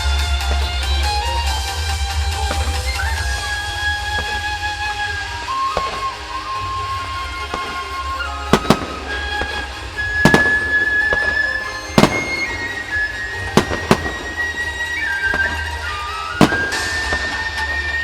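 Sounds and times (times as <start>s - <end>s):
fireworks bursting with bangs: 0.0s - 18.0s
music with flute-like melody: 0.0s - 18.0s.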